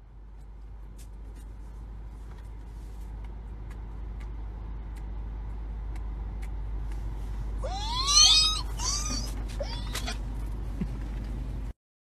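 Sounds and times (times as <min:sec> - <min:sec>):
car engine rumble inside cabin: 0:00.0 - 0:11.8.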